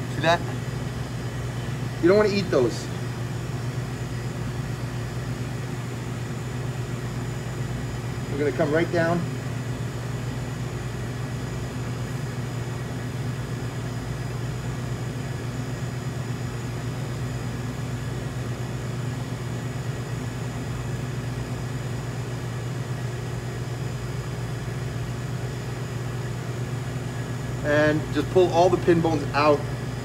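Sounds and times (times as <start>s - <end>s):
ventilation hum and hiss: 0.0s - 30.0s.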